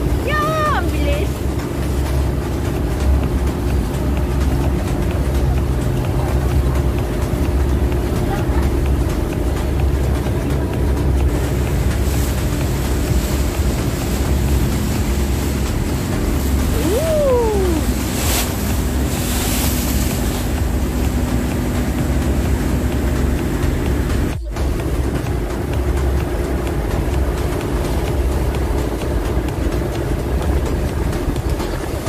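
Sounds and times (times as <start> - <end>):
boat engine running: 0.0 - 32.0
wake splashing along hull: 0.0 - 32.0.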